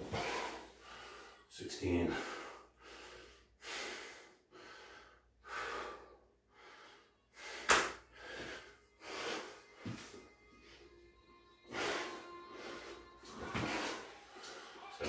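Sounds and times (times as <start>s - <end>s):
man breathing hard: 0.0s - 1.5s, 2.1s - 11.0s, 11.6s - 14.9s.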